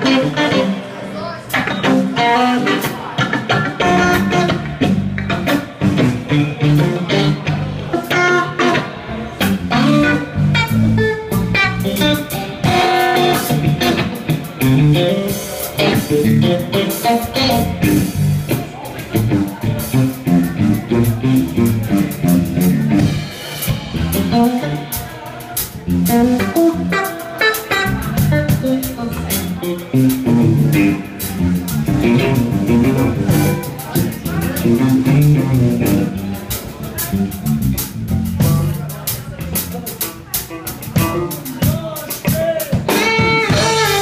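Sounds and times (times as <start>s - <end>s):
drum kit: 0.0s - 44.0s
electric bass: 0.0s - 44.0s
electric guitars: 0.0s - 44.0s.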